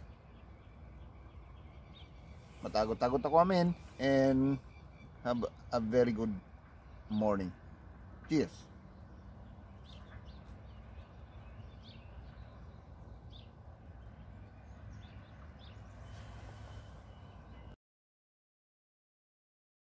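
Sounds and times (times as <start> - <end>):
faint bird chirps: 0.0 - 7.3, 8.4 - 17.8
low outdoor rumble: 0.0 - 17.8.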